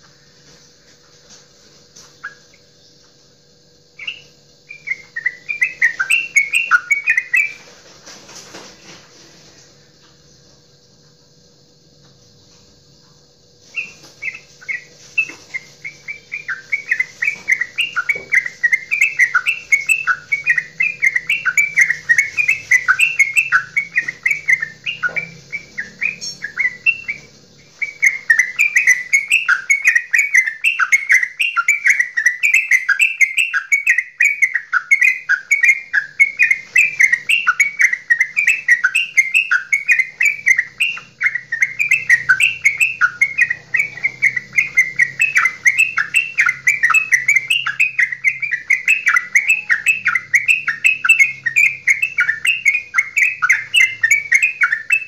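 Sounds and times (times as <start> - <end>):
bird singing chattering notes: 1.9 - 7.8, 13.3 - 55.0.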